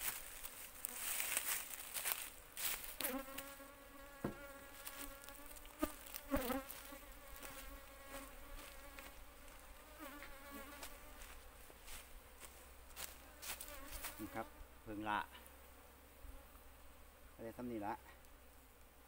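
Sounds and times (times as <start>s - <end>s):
bees buzzing: 0.0s - 17.6s.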